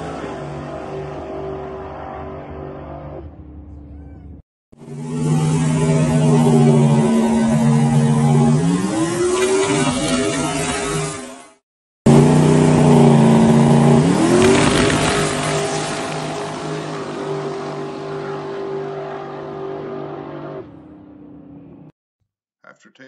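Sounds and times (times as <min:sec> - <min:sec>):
drag car engine at full throttle: 0:00.0 - 0:03.6, 0:04.8 - 0:21.8.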